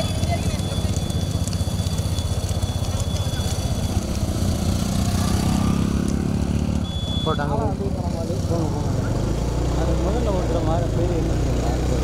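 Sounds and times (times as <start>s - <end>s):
motorcycle engine putting: 0.0s - 12.0s.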